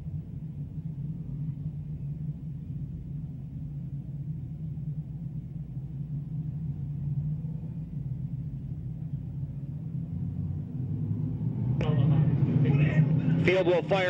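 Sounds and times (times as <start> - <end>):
race car engines rumbling: 0.0 - 14.0.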